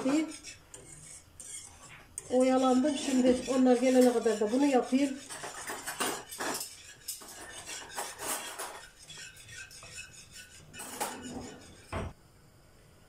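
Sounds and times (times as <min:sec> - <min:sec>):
whisk scraping in a pot: 0:00.0 - 0:12.2.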